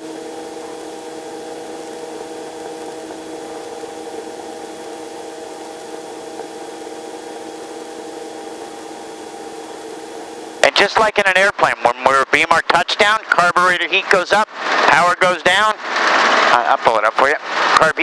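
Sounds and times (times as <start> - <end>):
helicopter drone in cabin: 0.0 - 17.9.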